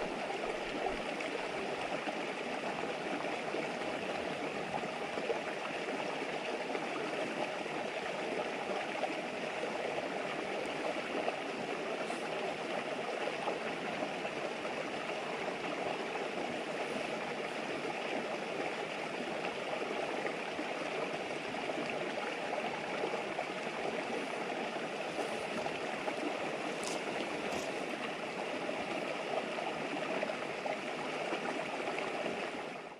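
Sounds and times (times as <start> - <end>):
river flowing: 0.0 - 32.9.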